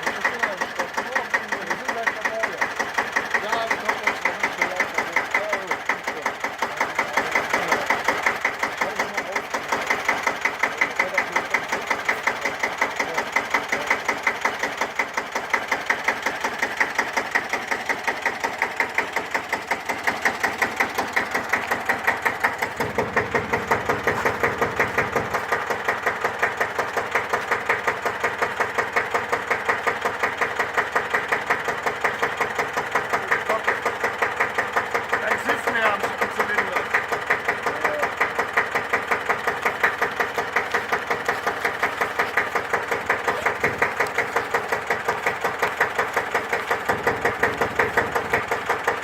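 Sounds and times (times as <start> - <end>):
tractor diesel engine idling: 0.0 - 49.0.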